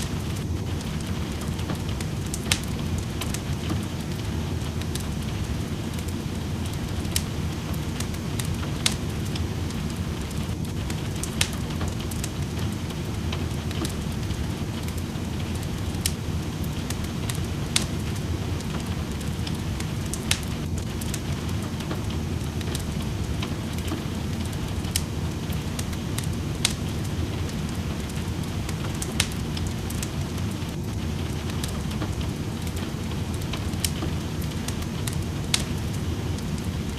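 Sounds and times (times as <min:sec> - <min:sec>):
rain: 0:00.0 - 0:36.9
wood fire crackling and popping: 0:00.0 - 0:36.9.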